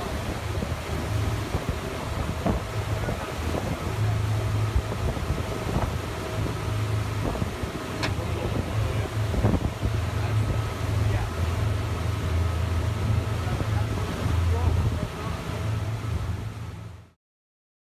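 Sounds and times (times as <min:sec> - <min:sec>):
boat engine drone: 0:00.0 - 0:17.2
water noise: 0:00.0 - 0:17.2
wind: 0:00.0 - 0:17.2.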